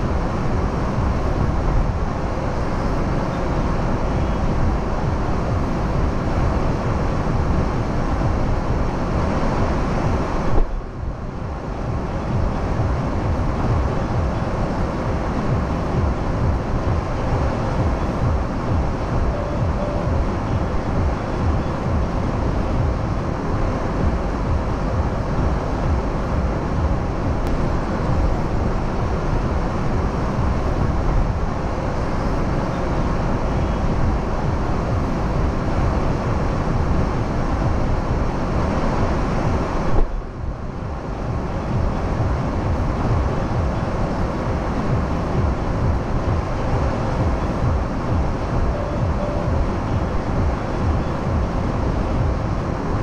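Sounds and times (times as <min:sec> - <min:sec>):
street traffic rumble: 0:00.0 - 0:53.0.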